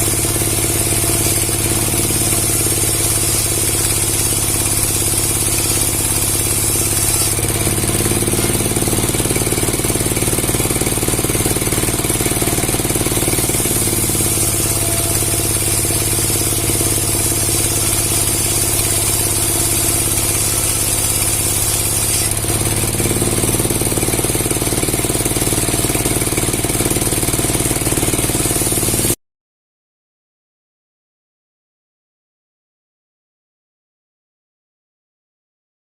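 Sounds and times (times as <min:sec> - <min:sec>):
engine running steadily: 0:00.0 - 0:29.2.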